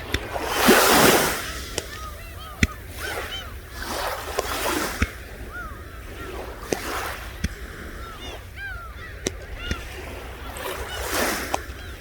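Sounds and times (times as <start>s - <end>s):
seagulls crying: 0.0s - 12.0s
surf washing on shore: 0.0s - 12.0s.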